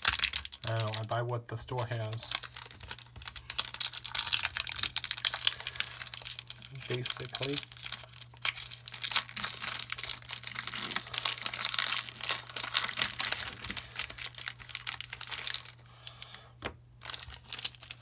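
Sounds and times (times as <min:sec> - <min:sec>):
foil wrapper crinkling and tearing: 0:00.0 - 0:18.0.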